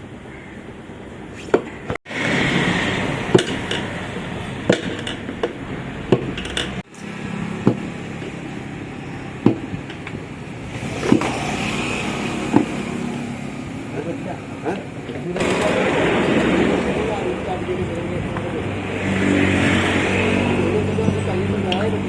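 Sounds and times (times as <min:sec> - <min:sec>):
steady workshop hum: 0:00.9 - 0:22.0.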